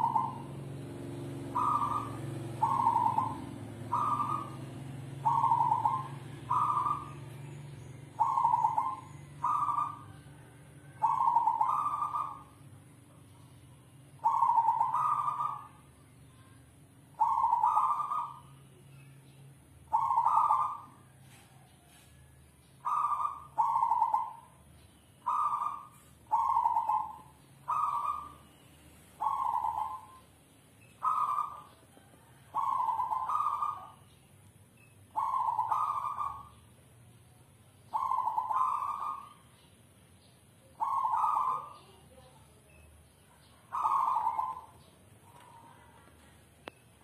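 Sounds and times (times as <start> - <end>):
dove cooing: 0.0 - 18.7, 19.8 - 24.6, 25.2 - 30.3, 30.9 - 34.1, 35.1 - 36.6, 37.8 - 39.5, 40.6 - 42.8, 43.4 - 46.5.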